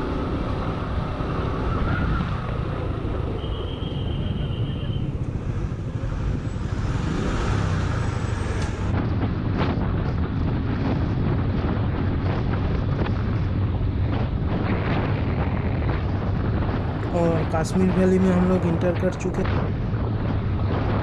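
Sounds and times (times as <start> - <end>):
motorcycle engine rumble: 0.0 - 21.0
wind and road hiss: 0.0 - 21.0.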